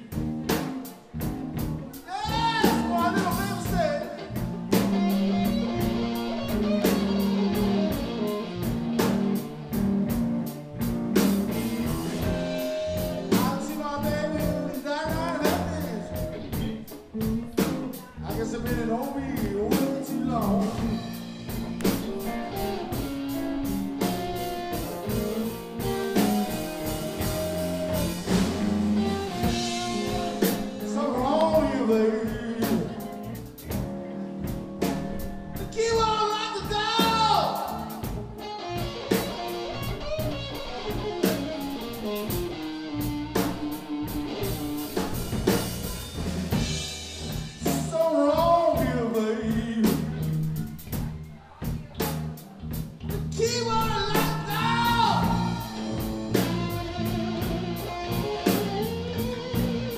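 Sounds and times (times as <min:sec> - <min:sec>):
bending electric guitar lead: 0:00.0 - 0:59.9
live blues band playing: 0:00.0 - 0:59.9.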